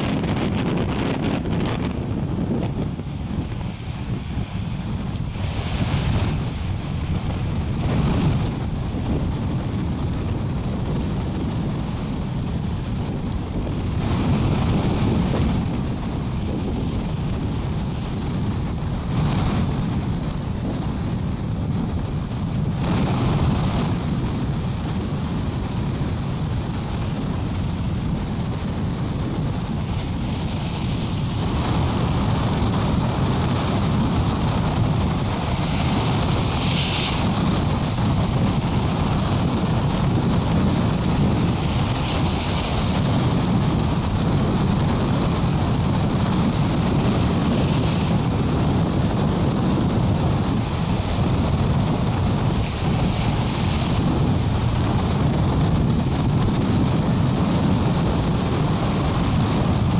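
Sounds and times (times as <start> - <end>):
rough sea surf: 0.0 - 59.9
strong wind buffeting microphone: 0.0 - 59.9.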